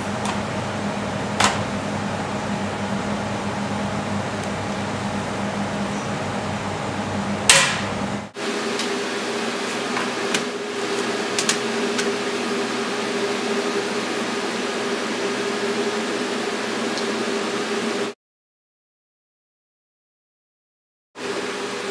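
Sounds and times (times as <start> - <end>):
machinery humming: 0.0 - 18.2, 21.2 - 21.9.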